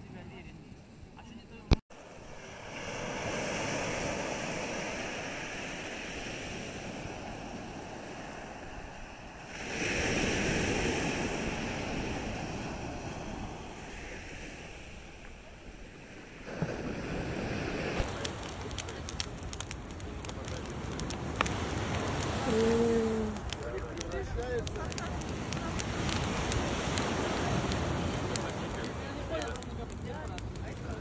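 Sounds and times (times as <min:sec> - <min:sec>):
sea waves breaking on shore: 0:01.9 - 0:18.9, 0:20.7 - 0:23.6, 0:24.3 - 0:29.4.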